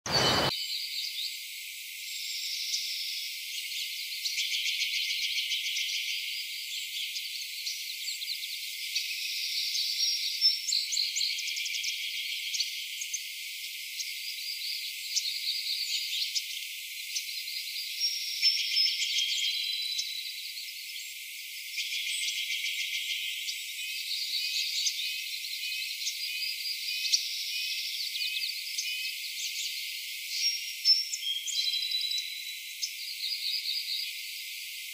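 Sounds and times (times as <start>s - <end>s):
small birds chirping and trilling: 0.1s - 1.3s, 4.1s - 34.9s.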